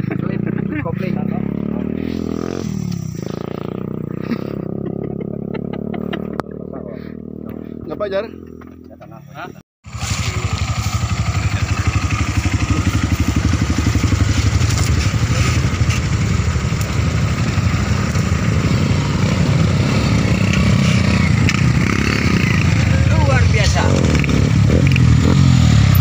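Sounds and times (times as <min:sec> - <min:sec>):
small motorcycle engines puttering: 0:00.0 - 0:09.2, 0:09.9 - 0:26.0.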